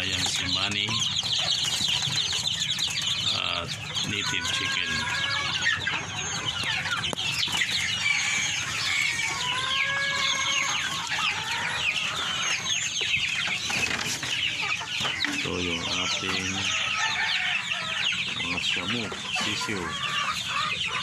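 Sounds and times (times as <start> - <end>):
chickens clucking: 0.0 - 21.0
long held chicken calls: 0.0 - 21.0.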